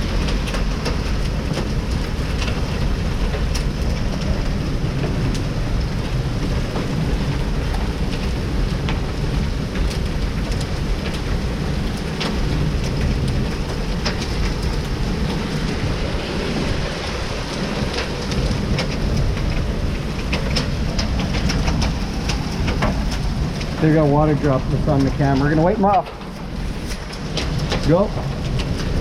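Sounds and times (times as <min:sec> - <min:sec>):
hailstones ticking on hard surfaces: 0:00.0 - 0:29.0
heavy rain and hail: 0:00.0 - 0:29.0
low rumble: 0:00.0 - 0:29.0.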